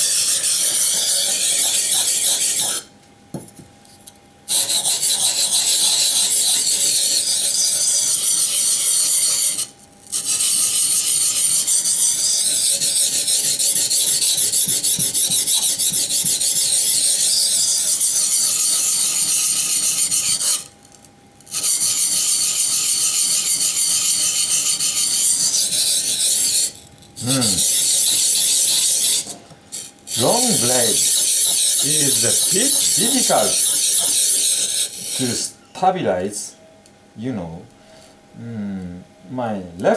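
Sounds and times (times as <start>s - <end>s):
knife blade scraping on whetstone: 0.0s - 2.9s, 4.5s - 20.7s, 21.5s - 35.6s.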